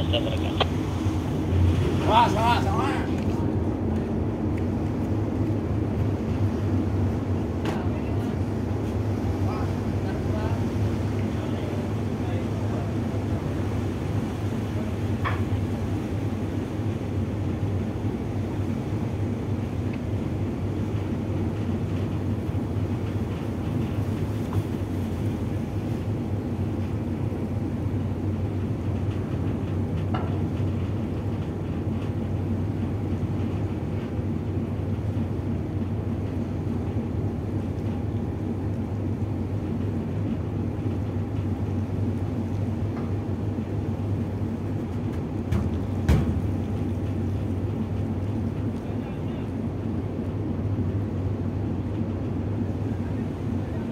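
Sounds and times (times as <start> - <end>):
diesel engine drone: 0.0 - 53.9.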